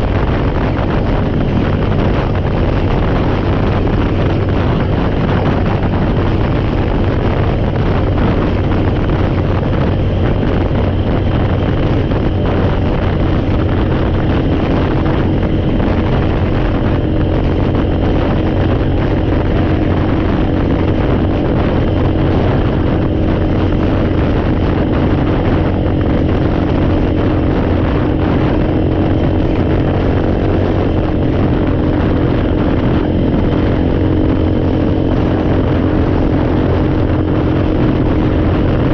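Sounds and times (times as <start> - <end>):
atv engine running: 0.0 - 38.9
wind buffeting microphone: 0.0 - 38.9.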